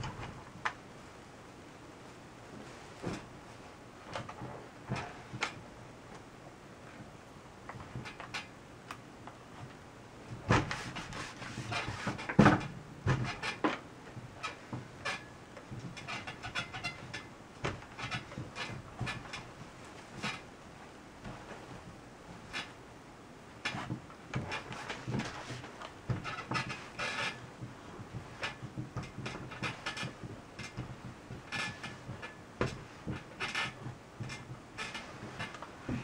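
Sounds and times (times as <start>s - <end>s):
fabric rustling: 0.0s - 6.2s, 9.4s - 36.0s.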